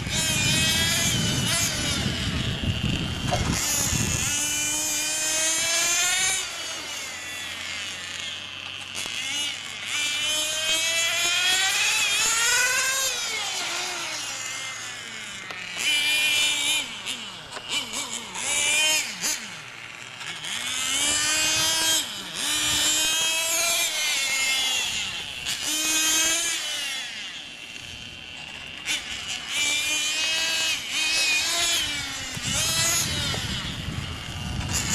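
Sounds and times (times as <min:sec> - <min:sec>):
model motorcycle motor revving: 0:00.0 - 0:34.9.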